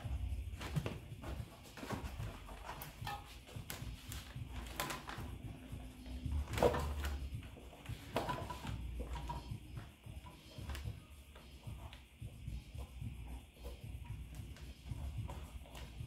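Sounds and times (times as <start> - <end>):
quiet background music: 0.0 - 16.0
rubber and plastic bag rustling: 0.0 - 16.0.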